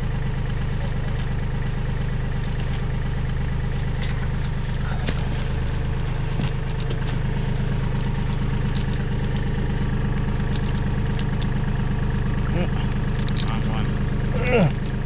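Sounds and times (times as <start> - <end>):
tractor engine idling: 0.0 - 15.0
metal chain clinking: 0.3 - 11.6, 12.2 - 15.0.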